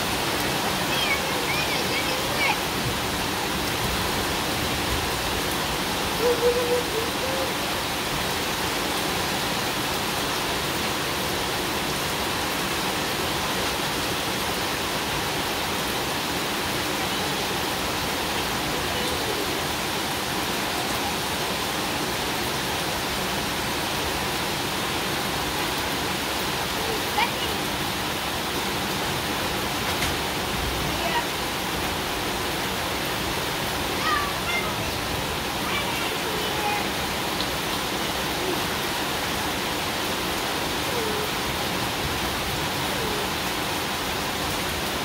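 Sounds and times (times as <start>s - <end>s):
heavy rain on concrete: 0.0s - 45.0s.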